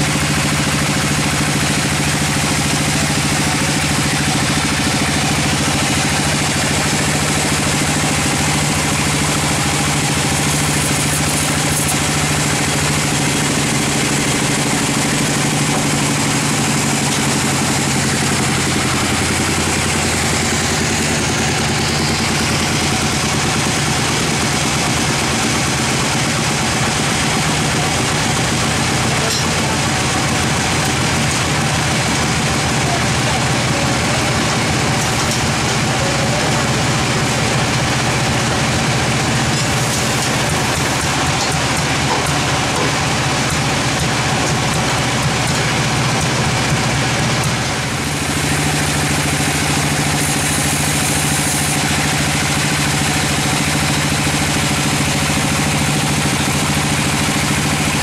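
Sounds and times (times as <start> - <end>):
band saw cutting wood: 0.0 - 58.0.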